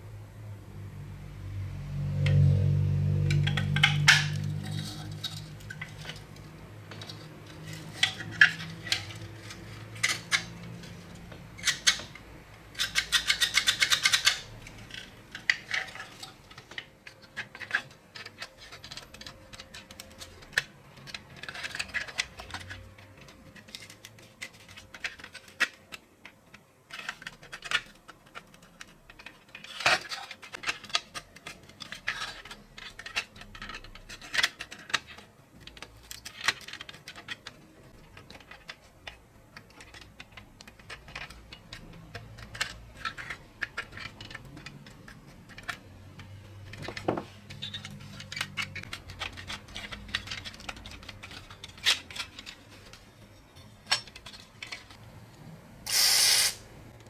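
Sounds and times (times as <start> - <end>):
metal parts and tools clinking: 3.1 - 55.0.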